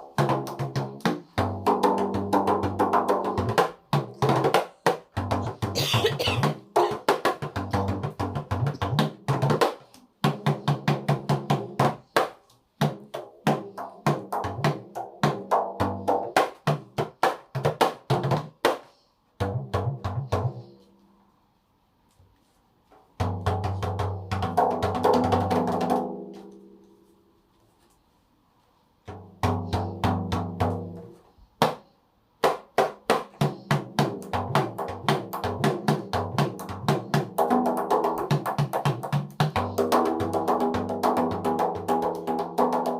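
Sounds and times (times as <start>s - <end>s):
frame drums struck by hand: 0.0s - 18.8s, 23.2s - 26.4s, 29.1s - 31.8s, 32.4s - 42.9s.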